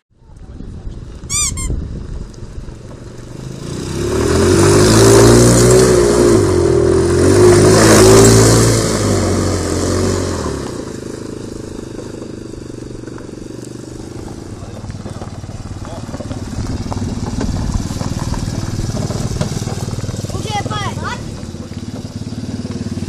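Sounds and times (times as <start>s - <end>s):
small petrol engine driving past: 1.1s - 23.0s.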